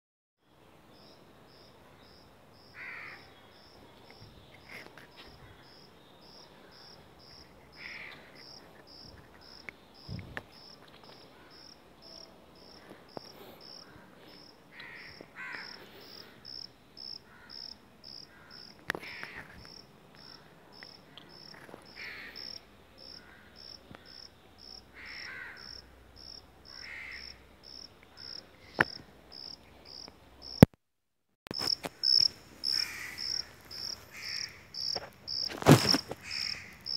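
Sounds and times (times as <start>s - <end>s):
cricket chirping: 1.0s - 30.7s, 31.5s - 36.9s.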